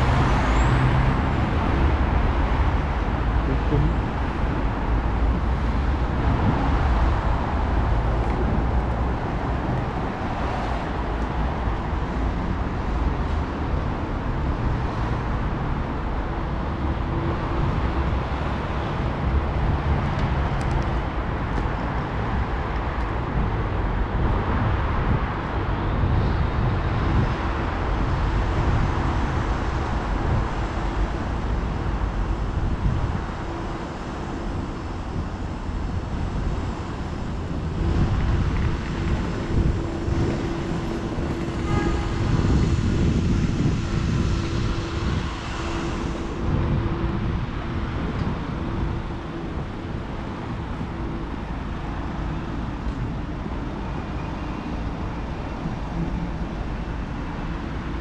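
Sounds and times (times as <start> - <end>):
traffic driving past: 0.0 - 58.0.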